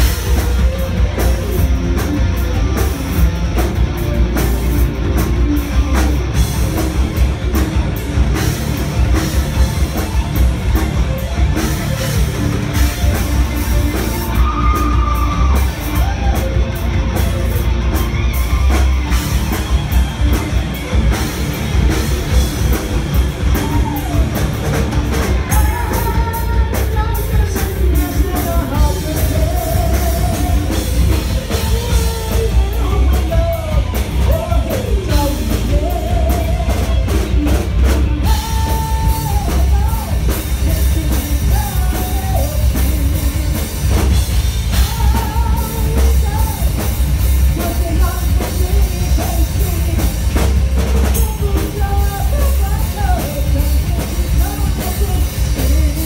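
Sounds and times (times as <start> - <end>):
heavy metal band playing: 0.0 - 56.0
melodic lead guitar lines: 0.0 - 56.0.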